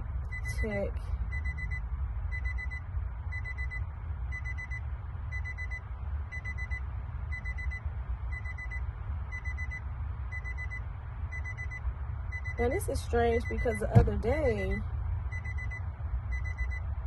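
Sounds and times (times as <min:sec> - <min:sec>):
steady low rumble: 0:00.0 - 0:17.0
high electronic warning beeps: 0:00.3 - 0:16.9.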